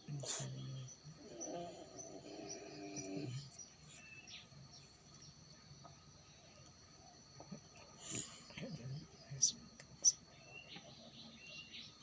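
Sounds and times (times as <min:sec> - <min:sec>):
faint high chirping: 0:00.1 - 0:12.0.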